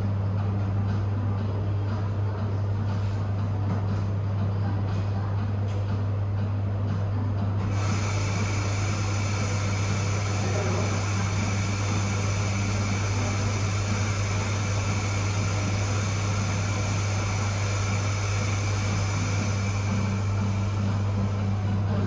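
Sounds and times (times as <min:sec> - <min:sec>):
low mechanical drone: 0:00.0 - 0:22.0.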